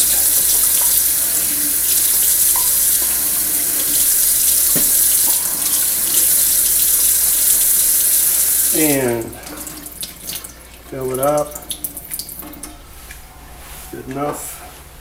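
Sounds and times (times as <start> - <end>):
faucet running into steel sink: 0.0 - 12.8.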